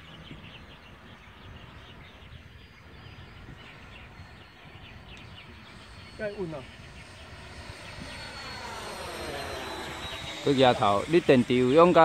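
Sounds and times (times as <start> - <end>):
birds chirping: 0.0 - 12.0
low rumble of wind: 0.0 - 12.0.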